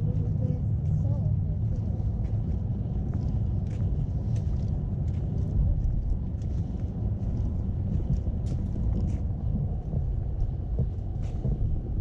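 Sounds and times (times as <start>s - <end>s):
steady low rumble: 0.0s - 12.0s
footsteps on trail: 0.1s - 12.0s.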